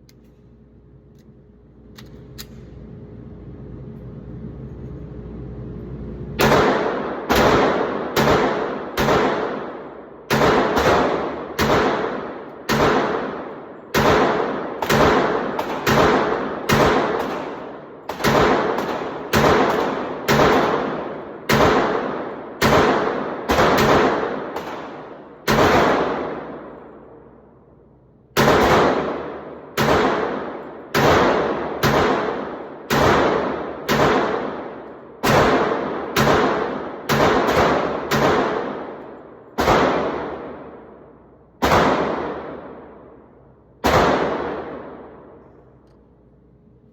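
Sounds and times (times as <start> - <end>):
pistol shots echoing: 6.4 - 45.8.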